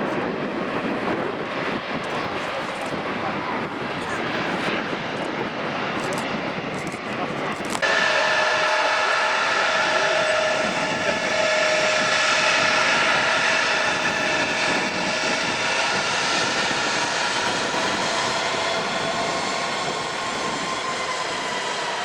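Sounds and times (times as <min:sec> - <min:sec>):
airliner engines roaring: 0:00.0 - 0:22.0.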